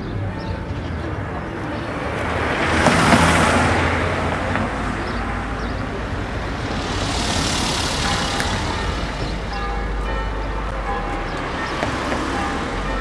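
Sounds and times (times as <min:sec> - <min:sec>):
low traffic rumble: 0:00.0 - 0:13.0
vehicles passing by: 0:00.0 - 0:13.0.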